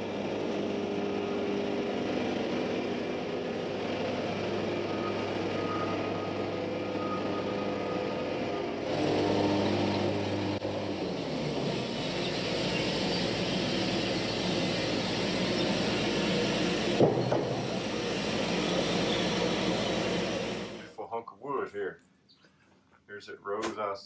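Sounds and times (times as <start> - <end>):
engine running: 0.0 - 20.9.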